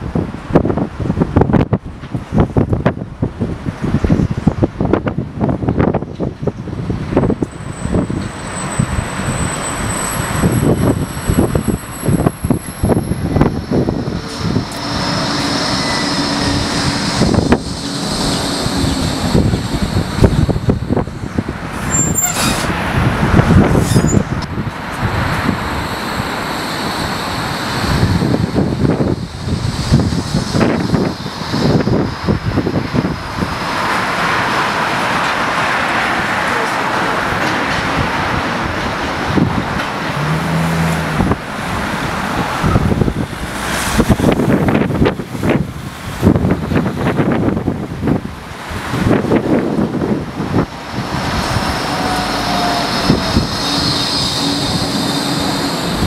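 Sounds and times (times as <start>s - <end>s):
wind buffeting microphone: 0.0s - 35.6s, 37.3s - 56.0s
road traffic: 0.0s - 56.0s
tram rumbling on track: 0.0s - 56.0s.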